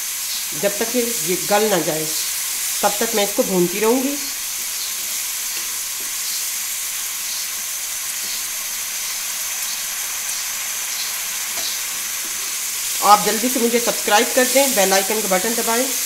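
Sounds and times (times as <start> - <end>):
lentils sizzling in a wok: 0.0 - 16.0.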